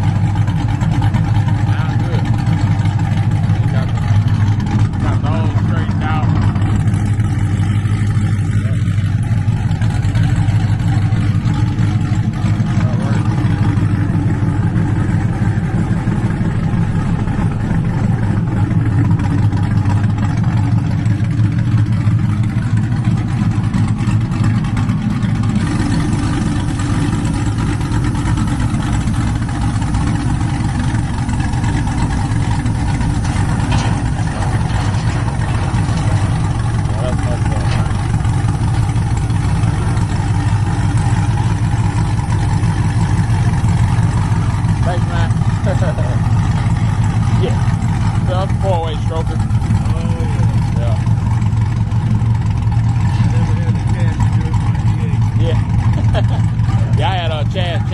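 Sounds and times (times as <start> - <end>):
car engine droning: 0.0 - 57.9.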